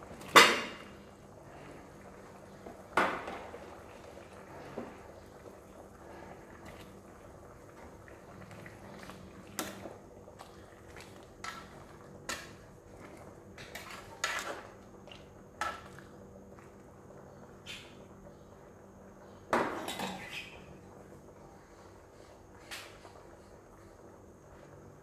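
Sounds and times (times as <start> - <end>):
soup simmering softly: 0.0 - 19.6, 20.6 - 25.0.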